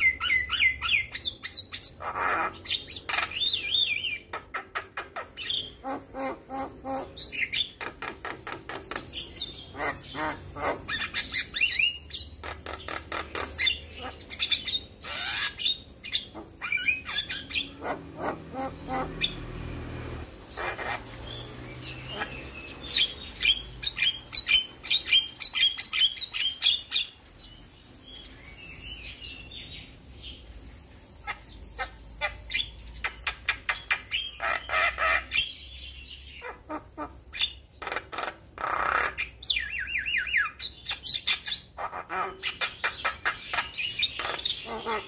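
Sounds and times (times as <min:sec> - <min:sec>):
bird chirps: 0:00.0 - 0:19.8, 0:20.4 - 0:45.0
bird chattering and squawking: 0:00.0 - 0:27.2, 0:31.2 - 0:45.0.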